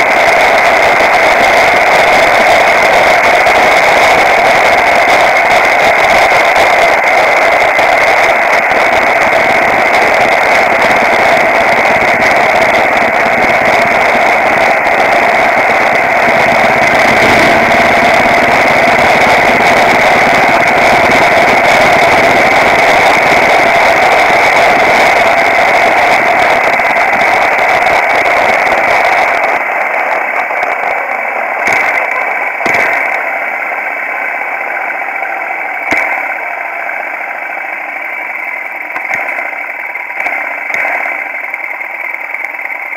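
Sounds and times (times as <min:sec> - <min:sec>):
wind rush on microphone: 0:00.0 - 0:34.9
motorcycle engine: 0:00.0 - 0:42.9.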